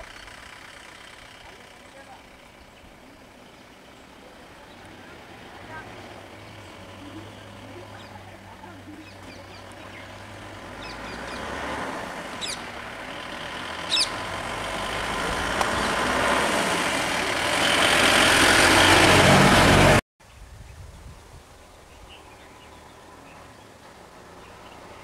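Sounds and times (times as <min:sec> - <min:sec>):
road traffic passing: 0:00.0 - 0:20.0, 0:21.3 - 0:25.0
outdoor background noise: 0:00.0 - 0:25.0.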